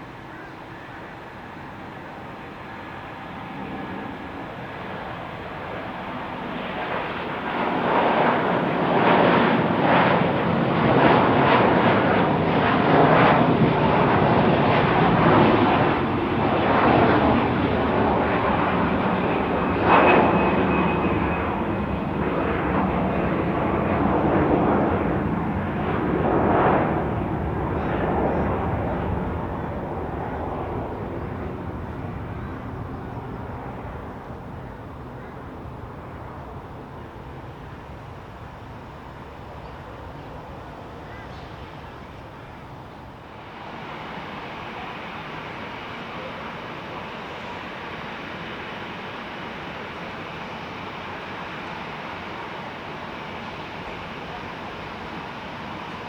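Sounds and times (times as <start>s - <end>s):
airliner engines passing: 0.0s - 56.0s.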